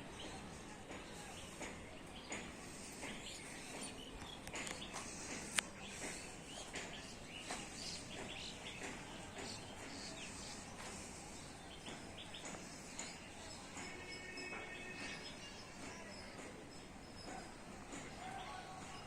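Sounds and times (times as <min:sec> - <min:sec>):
small birds chirping: 0:00.0 - 0:19.0
steady outdoor hiss: 0:00.0 - 0:19.0.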